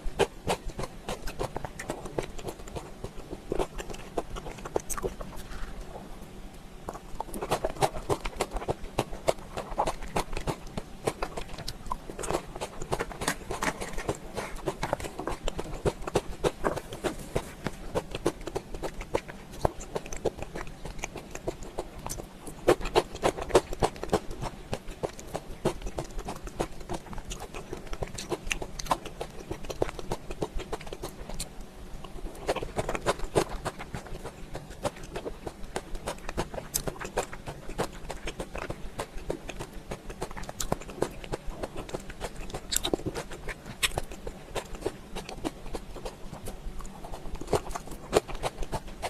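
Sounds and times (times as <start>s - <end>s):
chewing and biting food: 0.0s - 49.0s.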